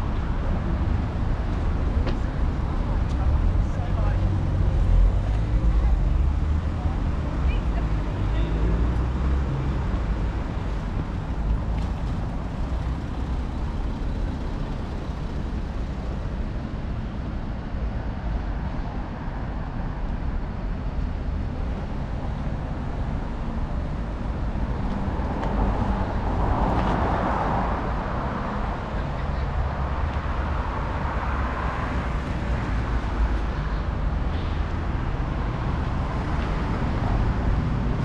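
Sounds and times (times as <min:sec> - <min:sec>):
road traffic: 0:00.0 - 0:38.0.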